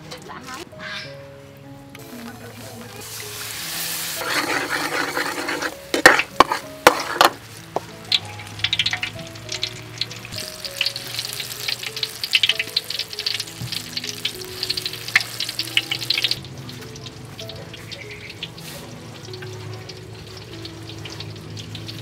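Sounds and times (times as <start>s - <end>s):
soft background music: 0.0s - 22.0s
battered slices frying in oil: 2.0s - 22.0s.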